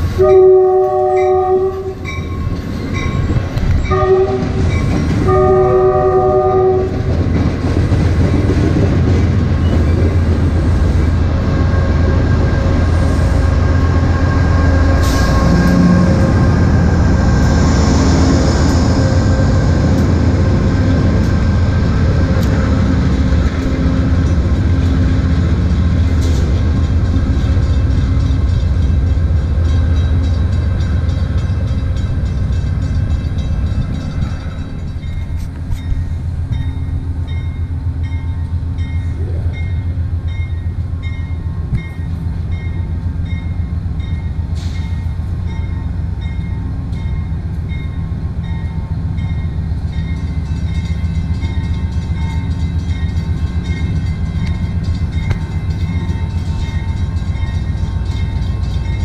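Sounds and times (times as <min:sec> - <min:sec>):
diesel locomotive engine rumble: 0:00.0 - 0:59.0
steady train sound: 0:00.0 - 0:59.0.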